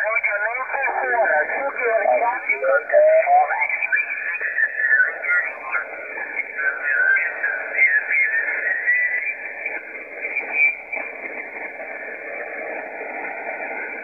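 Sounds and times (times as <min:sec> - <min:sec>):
radio band noise hiss: 0:00.0 - 0:14.0
squawking distorted radio voices: 0:00.0 - 0:14.0.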